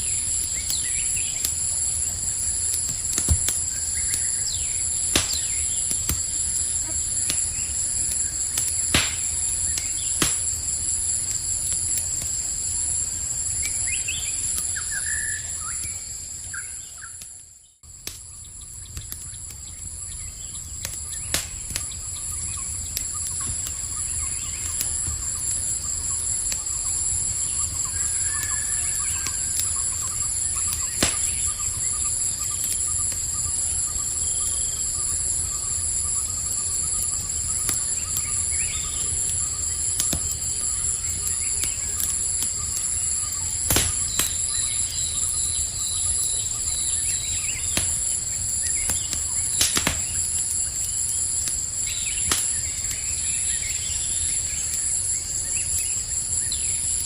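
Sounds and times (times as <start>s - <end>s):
campfire crackling and popping: 0.0s - 57.0s
night insects trilling: 0.0s - 57.0s.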